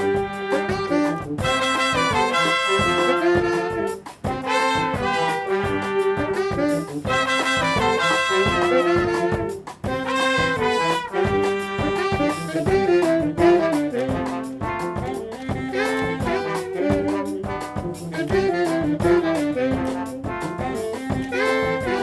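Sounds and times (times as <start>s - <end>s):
brass band playing: 0.0s - 22.0s
drum beat: 0.0s - 22.0s.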